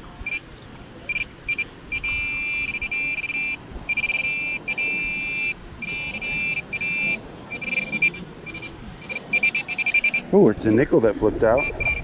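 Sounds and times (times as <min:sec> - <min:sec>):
metal detector beeping: 0:00.2 - 0:00.4, 0:01.1 - 0:10.3, 0:11.5 - 0:12.0.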